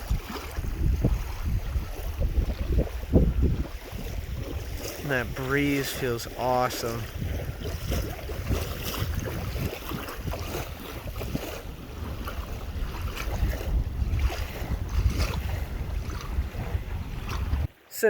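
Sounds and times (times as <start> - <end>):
wind buffeting microphone: 0.0 - 17.7.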